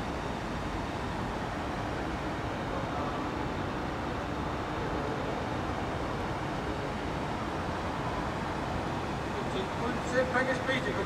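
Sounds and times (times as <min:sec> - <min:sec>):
large hall hum: 0:00.0 - 0:11.0.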